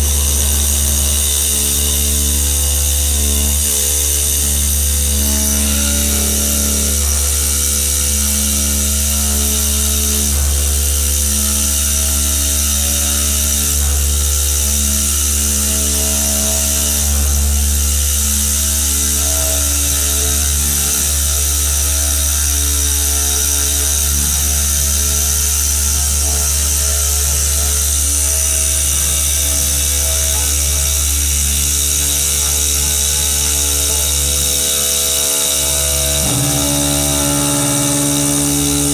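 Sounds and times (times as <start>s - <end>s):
cnc router spindle cutting stone: 0.0s - 38.9s.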